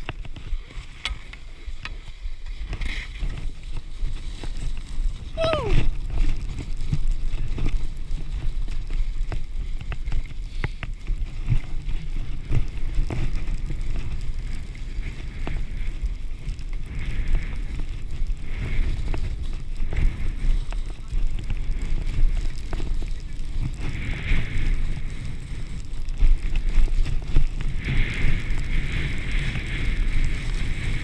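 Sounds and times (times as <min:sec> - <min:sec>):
skis scraping on snow: 0:00.0 - 0:31.0
wind buffeting microphone: 0:00.0 - 0:31.0.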